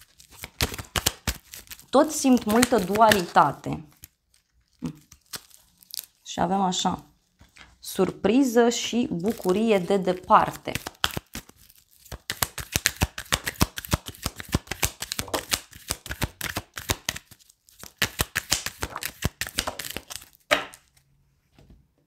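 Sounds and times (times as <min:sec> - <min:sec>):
cards being shuffled: 0:00.0 - 0:06.1, 0:09.1 - 0:21.1.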